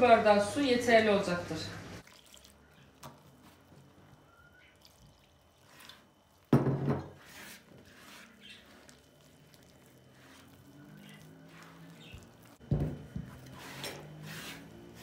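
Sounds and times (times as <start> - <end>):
dough squishing and rubbing: 2.0 - 15.0.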